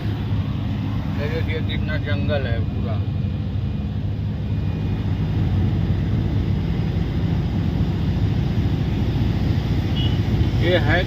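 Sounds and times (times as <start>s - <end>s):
truck diesel engine rumble: 0.0s - 11.0s.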